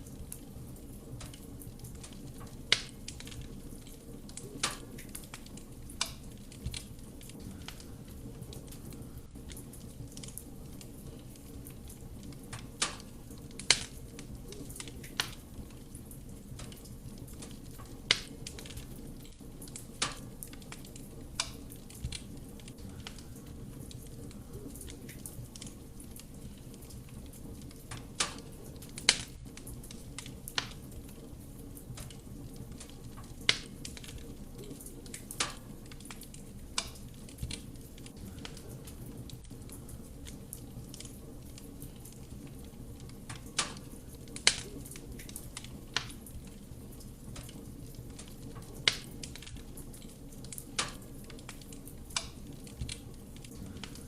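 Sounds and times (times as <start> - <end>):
logs crackling and popping: 0.0 - 54.0.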